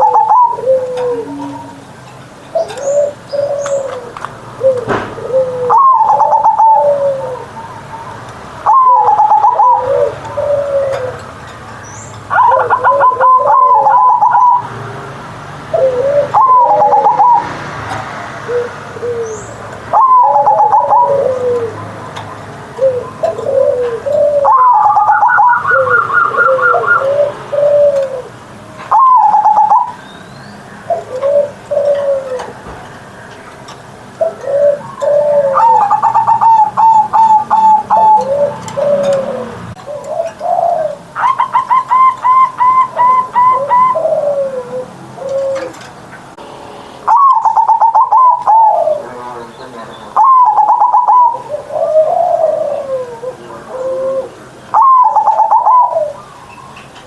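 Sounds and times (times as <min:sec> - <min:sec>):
dove trilling and cooing: 0:00.0 - 0:15.0, 0:15.6 - 0:46.0, 0:47.0 - 0:57.0.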